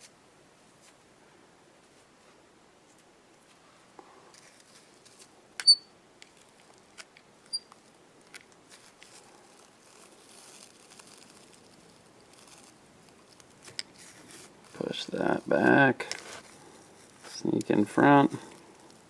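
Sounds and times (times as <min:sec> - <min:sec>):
soft rustling: 0:00.0 - 0:01.1, 0:01.8 - 0:05.4, 0:07.7 - 0:19.0.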